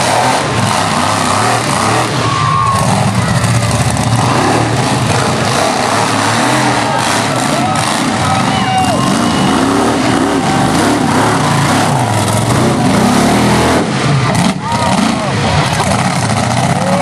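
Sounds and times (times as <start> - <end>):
dense background roar: 0.0 - 17.0
monster truck engines revving: 0.0 - 17.0.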